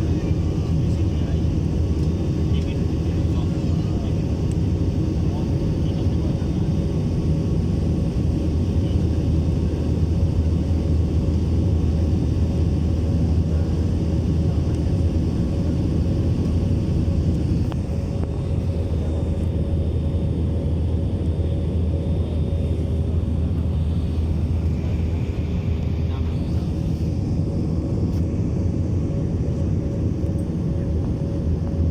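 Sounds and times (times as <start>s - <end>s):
airplane engine drone: 0.0s - 31.9s.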